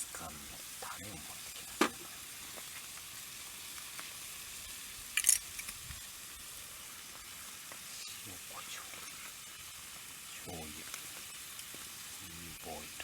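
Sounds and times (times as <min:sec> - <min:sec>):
meat sizzling in a grill pan: 0:00.0 - 0:13.0.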